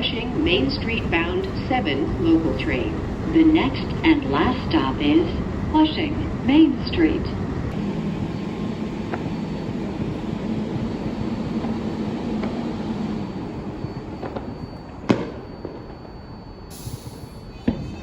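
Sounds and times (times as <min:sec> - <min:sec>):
subway wheels rumbling on rail: 0:00.0 - 0:18.0.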